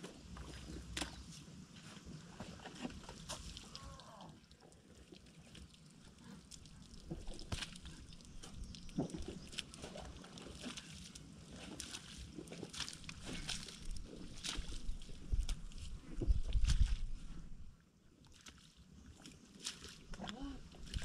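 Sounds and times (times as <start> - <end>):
water and mud splashing: 0.0 - 21.0.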